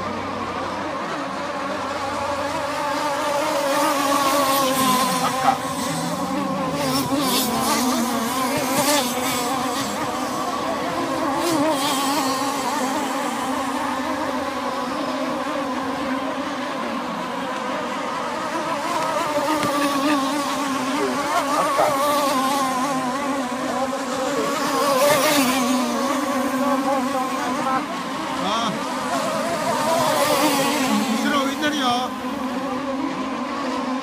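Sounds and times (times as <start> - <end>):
model boat engines buzzing: 0.0 - 34.0.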